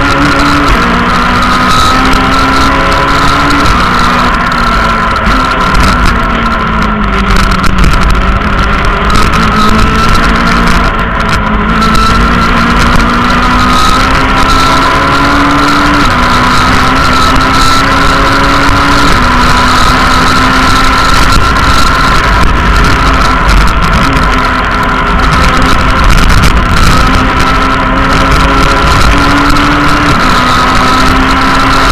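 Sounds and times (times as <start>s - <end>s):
car engine under hard load: 0.0s - 31.9s.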